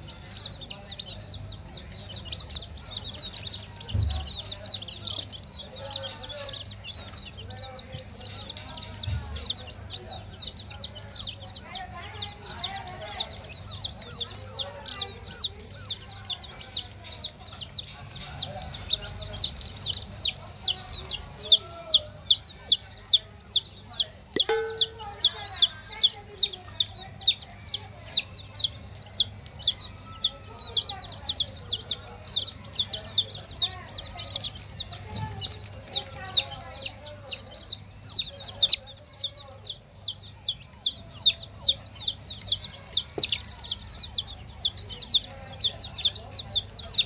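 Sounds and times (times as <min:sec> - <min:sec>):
baby chicks peeping: 0:00.0 - 0:47.0.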